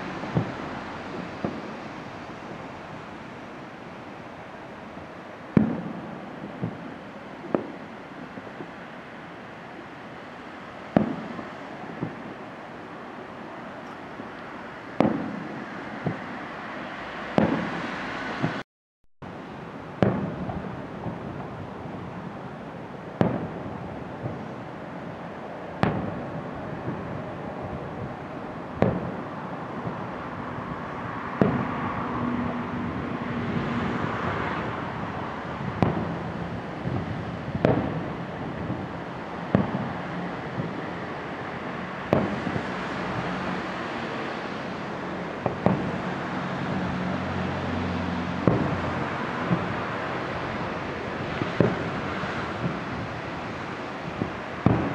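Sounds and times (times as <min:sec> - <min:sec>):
background rush: 0:00.0 - 0:18.6, 0:19.2 - 0:54.9
firework bangs: 0:00.0 - 0:18.6, 0:20.0 - 0:24.7, 0:25.5 - 0:54.9.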